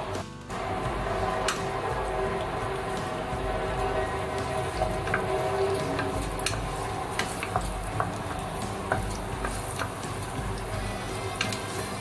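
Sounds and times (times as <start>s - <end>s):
garlic sizzling in oil: 0.0s - 12.0s
wooden spatula scraping a pan: 0.6s - 12.0s.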